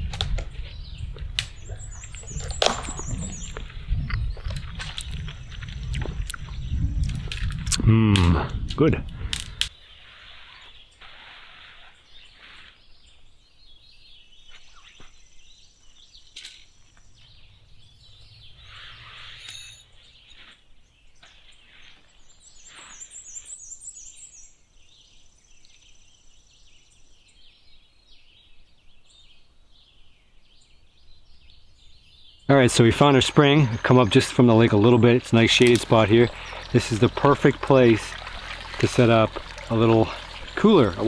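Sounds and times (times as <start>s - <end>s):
songbirds calling: 0.0s - 41.0s.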